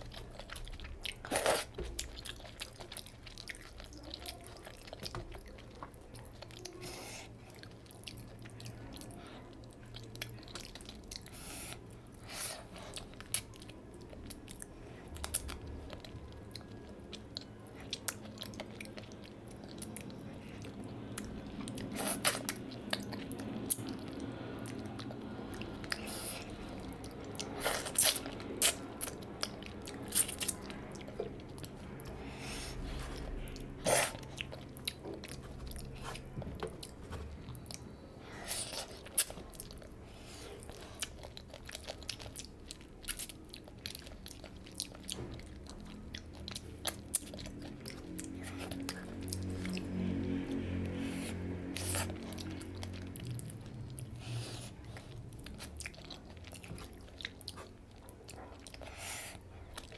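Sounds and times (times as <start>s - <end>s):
chewing and biting food: 0.0s - 59.9s.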